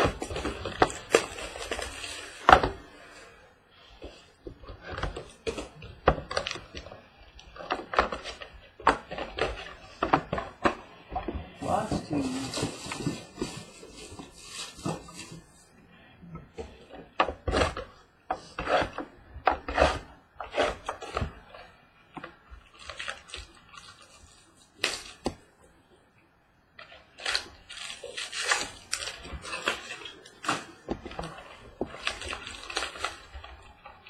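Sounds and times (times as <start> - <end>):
cardboard and wrapper crinkling: 0.0 - 15.8, 16.4 - 25.6, 26.8 - 34.0.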